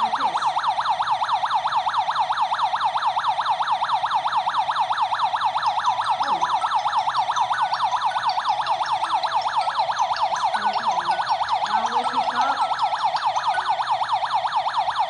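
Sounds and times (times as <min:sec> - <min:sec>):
security alarm siren sweeping: 0:00.0 - 0:15.0.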